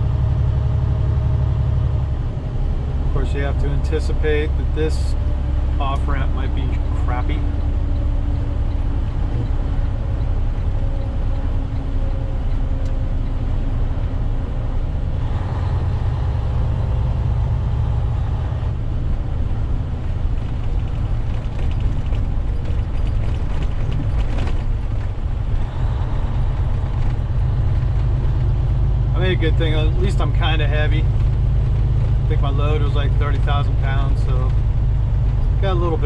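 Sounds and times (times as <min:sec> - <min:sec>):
road noise: 0:00.0 - 0:36.0
truck engine rumble: 0:00.0 - 0:36.0.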